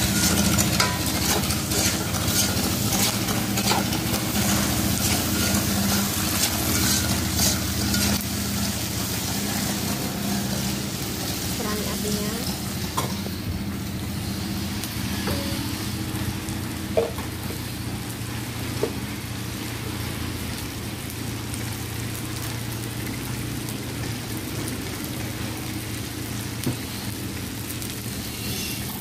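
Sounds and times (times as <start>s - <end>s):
chicken sizzling in a wok: 0.0s - 29.0s.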